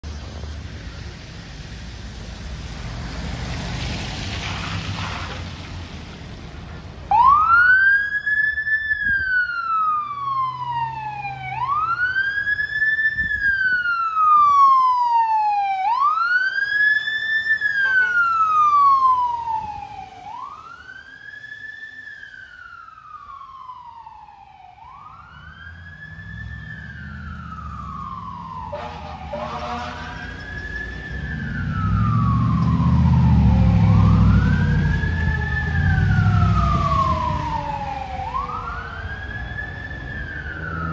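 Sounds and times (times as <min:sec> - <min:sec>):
street traffic noise: 0:00.0 - 0:40.9
fire engine siren wailing: 0:07.0 - 0:40.9.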